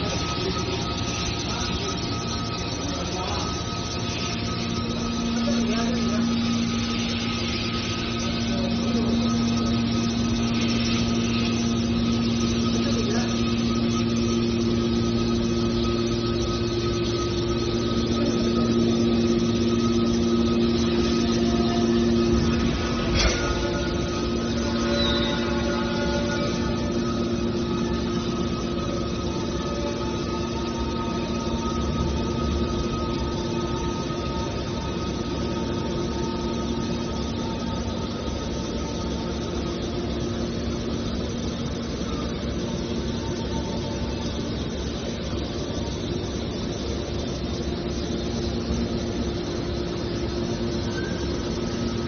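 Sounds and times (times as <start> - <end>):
baler machinery humming: 0.0 - 52.0.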